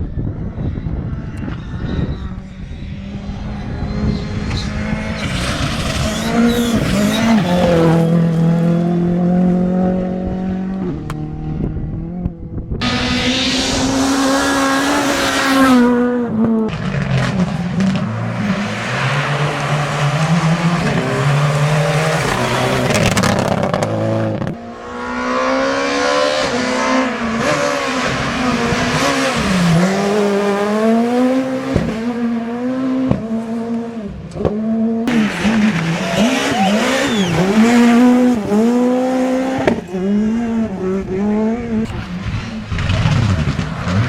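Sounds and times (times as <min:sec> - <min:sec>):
rally car engines revving: 0:00.1 - 0:44.0.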